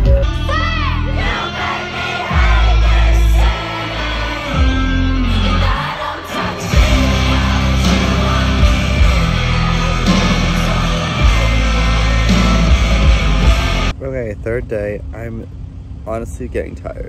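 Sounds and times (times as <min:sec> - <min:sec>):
live concert music with heavy bass: 0:00.0 - 0:13.9
person singing: 0:00.0 - 0:13.9.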